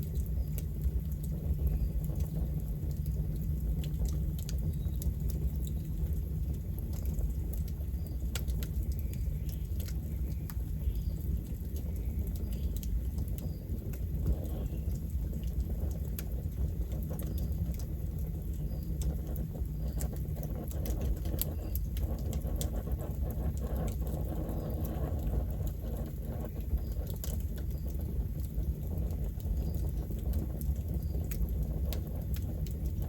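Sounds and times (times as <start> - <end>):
burning wood crackling and popping: 0.0 - 33.0
low rumble of flames: 0.0 - 33.0.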